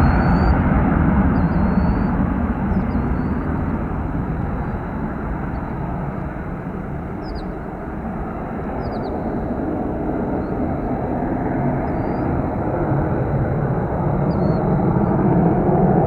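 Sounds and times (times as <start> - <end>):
deep jet engine rumble: 0.0 - 16.0.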